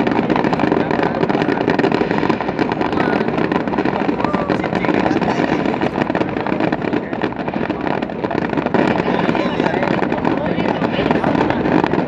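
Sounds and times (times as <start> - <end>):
crowd voices: 0.0 - 12.0
fireworks popping and banging: 0.0 - 12.0.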